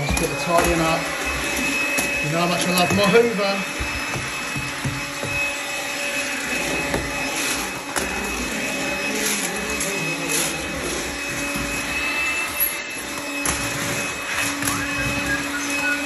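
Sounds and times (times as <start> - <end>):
stick vacuum cleaner whining: 0.0 - 16.0.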